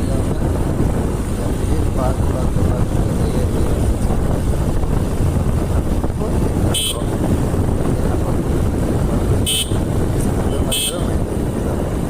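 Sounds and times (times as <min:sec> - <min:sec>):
motorcycle engine and road rumble: 0:00.0 - 0:12.0.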